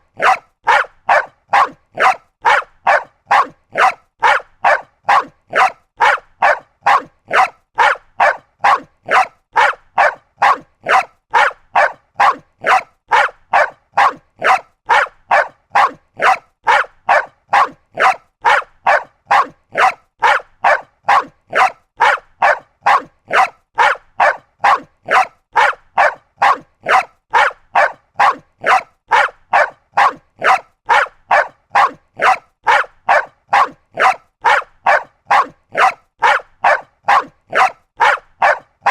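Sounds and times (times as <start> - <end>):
small dog barking: 0.2 - 38.9.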